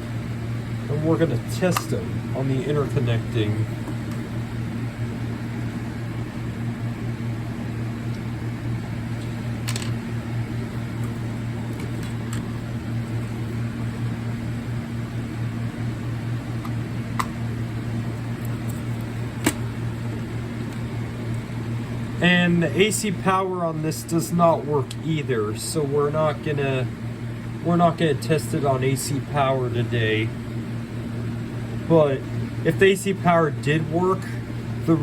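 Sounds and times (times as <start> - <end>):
fan humming: 0.0 - 35.0.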